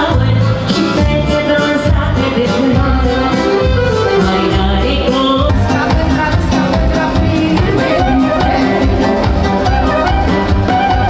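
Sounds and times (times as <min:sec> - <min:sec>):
keyboards and drums: 0:00.0 - 0:11.0
person singing: 0:00.0 - 0:11.0.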